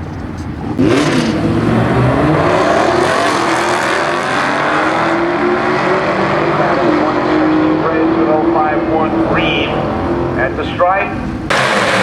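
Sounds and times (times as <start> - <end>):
cars launching at full throttle: 0.6 - 12.0.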